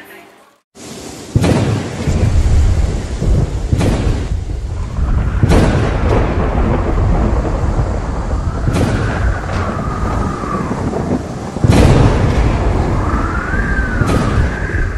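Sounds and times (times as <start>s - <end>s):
thunder rumble with crackling: 1.2s - 14.9s.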